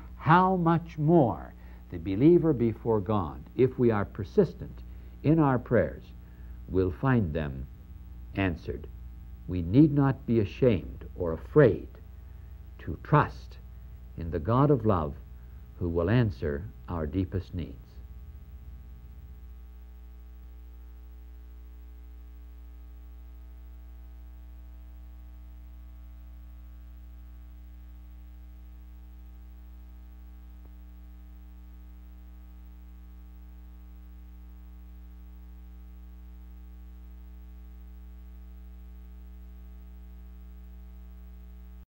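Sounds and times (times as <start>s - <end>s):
faint hiss: 0.0s - 41.8s
electrical mains hum: 0.0s - 41.9s.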